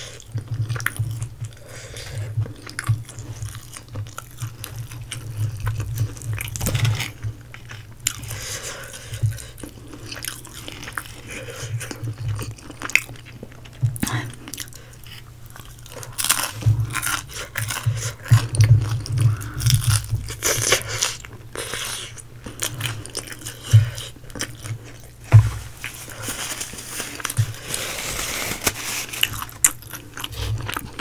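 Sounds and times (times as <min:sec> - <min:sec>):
crunching fried chicken: 0:00.0 - 0:31.0.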